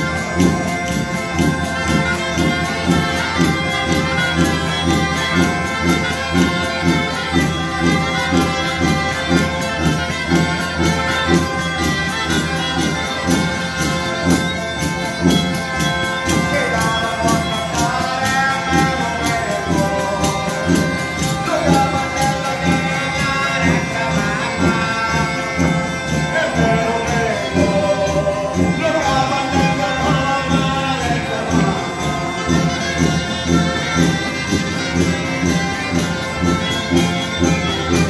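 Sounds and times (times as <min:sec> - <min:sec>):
bagpipe drone: 0:00.0 - 0:38.0
guitar: 0:00.0 - 0:38.0
small pipe playing tune: 0:00.0 - 0:38.0
tambourine beating rhythm: 0:00.0 - 0:38.0
violin: 0:00.0 - 0:38.0.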